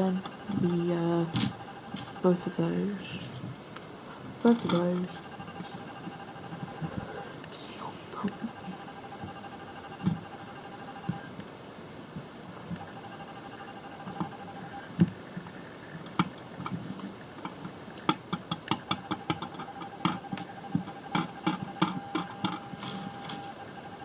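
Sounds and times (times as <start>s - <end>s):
faint steady whine: 0.0s - 24.0s.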